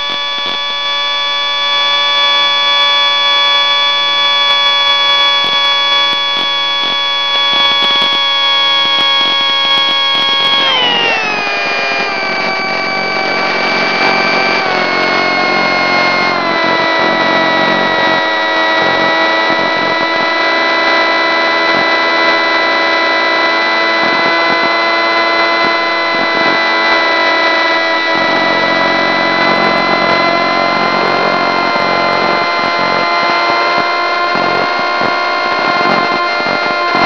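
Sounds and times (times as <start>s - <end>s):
model airplane motor whine: 0.0s - 37.0s.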